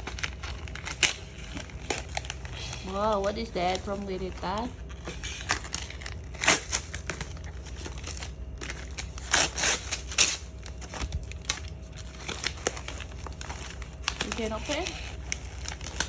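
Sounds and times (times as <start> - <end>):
gift wrapping crinkling and tearing: 0.0 - 16.0.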